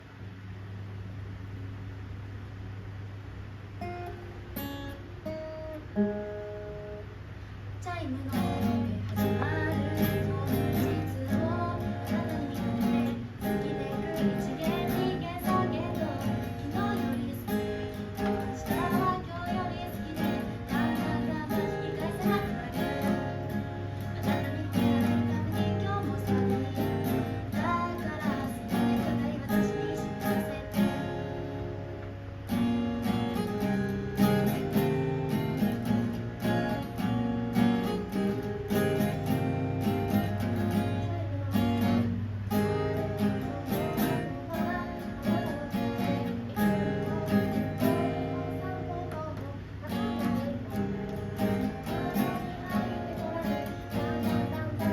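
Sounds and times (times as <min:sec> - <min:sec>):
acoustic guitar strumming and picking: 0:03.8 - 0:07.2, 0:07.8 - 0:54.9.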